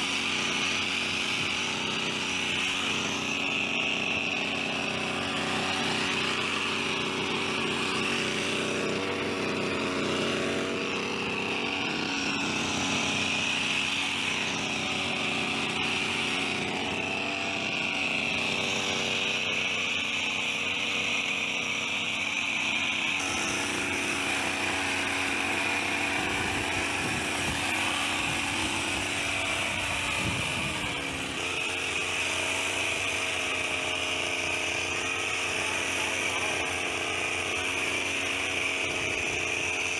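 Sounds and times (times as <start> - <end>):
hedge trimmer engine buzzing: 0.0 - 39.9.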